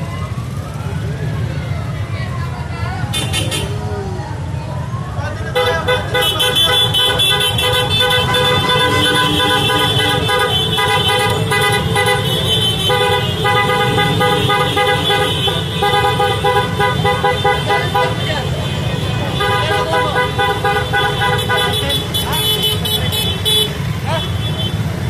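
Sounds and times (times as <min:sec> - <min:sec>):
idling engines rumbling: 0:00.0 - 0:25.0
motorcycle horns honking: 0:03.0 - 0:03.9, 0:05.5 - 0:25.0.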